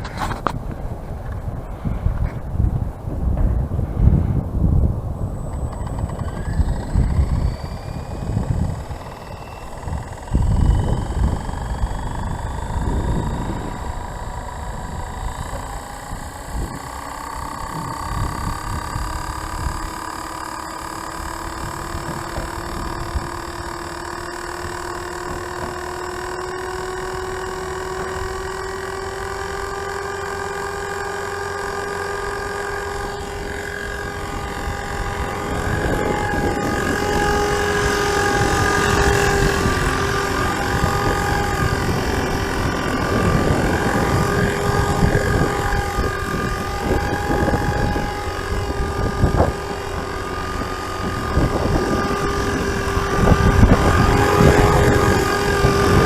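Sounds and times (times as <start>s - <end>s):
model helicopter rotor whine: 0.0s - 56.0s
wind buffeting microphone: 0.0s - 56.0s.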